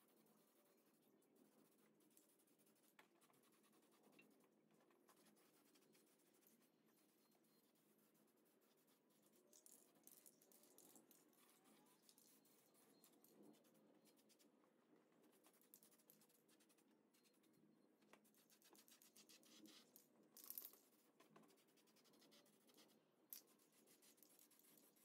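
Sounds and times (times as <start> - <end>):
faint scratching and handling: 0.0 - 25.0.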